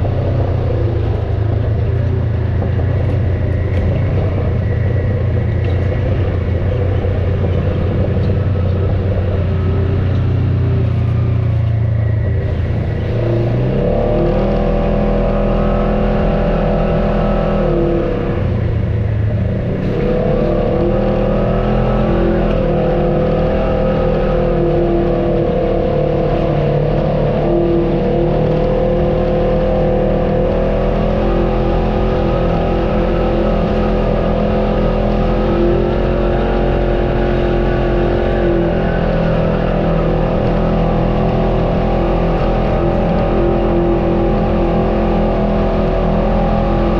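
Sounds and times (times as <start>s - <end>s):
off-road vehicle engine: 0.0s - 46.9s.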